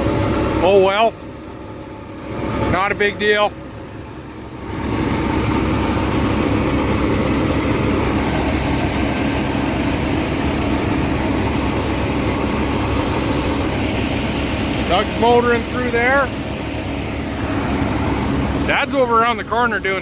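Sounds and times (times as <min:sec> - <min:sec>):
diesel farm machinery droning: 0:00.0 - 0:20.0.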